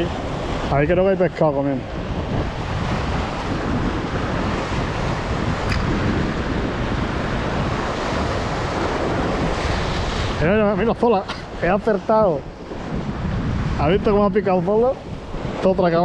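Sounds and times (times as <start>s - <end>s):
sea waves: 0.0s - 16.0s
wind buffeting microphone: 0.0s - 16.0s.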